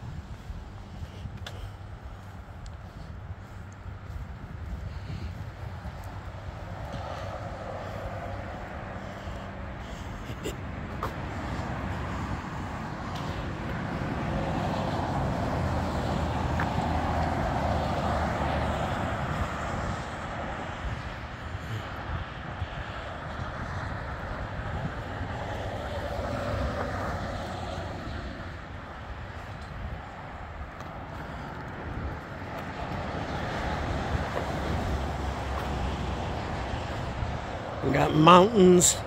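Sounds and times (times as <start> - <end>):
car passing: 0.0 - 39.0
low outdoor rumble: 0.0 - 39.0.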